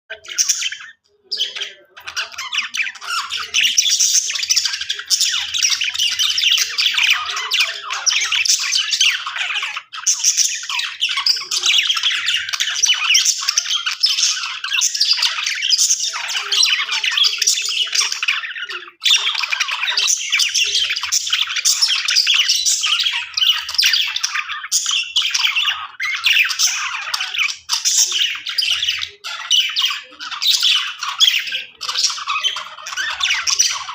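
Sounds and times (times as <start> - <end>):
budgerigars chirping and squawking: 0.1 - 33.9.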